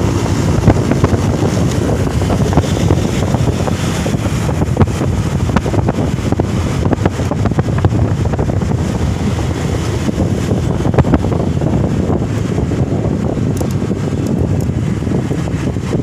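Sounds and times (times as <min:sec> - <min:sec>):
moving vehicle rumble: 0:00.0 - 0:16.0
wind buffeting microphone: 0:00.0 - 0:16.0.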